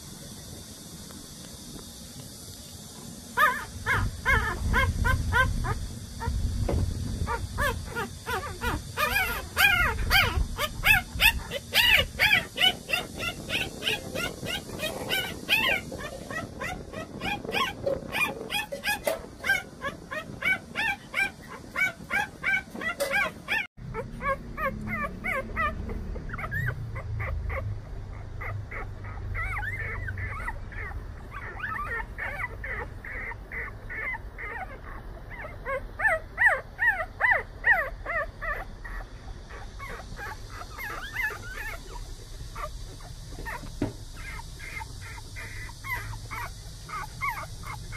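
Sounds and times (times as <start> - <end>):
puppies squeaking and whimpering: 3.4 - 6.4, 7.2 - 47.9.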